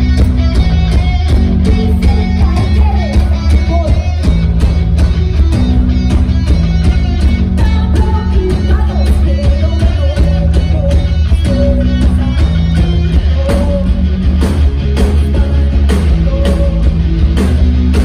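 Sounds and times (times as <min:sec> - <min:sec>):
bass guitar: 0:00.0 - 0:18.0
drums keeping a steady beat: 0:00.0 - 0:18.0
electric guitar: 0:00.0 - 0:18.0.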